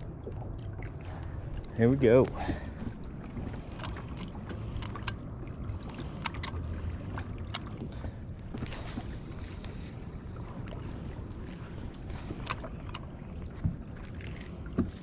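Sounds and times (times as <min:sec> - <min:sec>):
low rumble: 0:00.0 - 0:14.7
water lapping against boat hull: 0:00.0 - 0:15.0.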